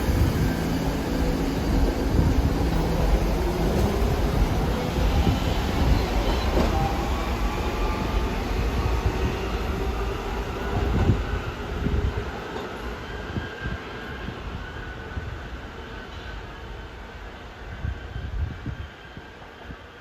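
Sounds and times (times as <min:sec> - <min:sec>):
subway train rumbling on track: 0:00.0 - 0:20.0.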